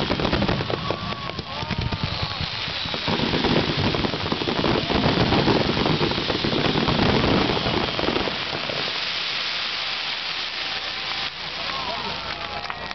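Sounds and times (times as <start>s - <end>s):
fireworks crackling: 0.0s - 12.9s.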